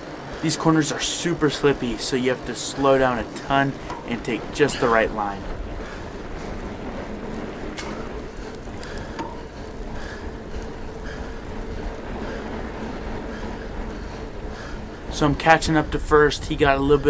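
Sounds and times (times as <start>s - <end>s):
bike tyre and drivetrain noise: 0.0s - 17.0s
wind rush on microphone: 0.0s - 17.0s.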